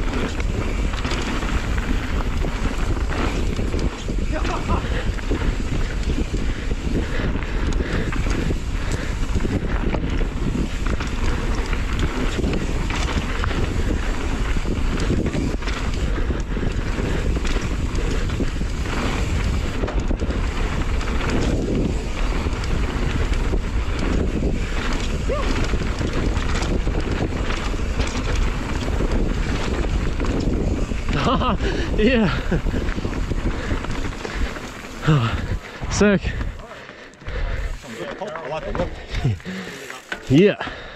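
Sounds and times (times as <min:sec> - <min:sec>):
wind on microphone: 0:00.0 - 0:36.6
bike knocks and rattles: 0:00.0 - 0:40.4
tyres rolling on dirt: 0:00.0 - 0:40.9.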